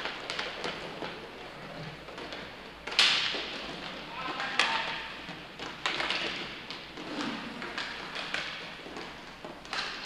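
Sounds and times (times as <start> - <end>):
background rink noise: 0.0 - 10.0
hockey sticks and puck knocking: 0.0 - 10.0.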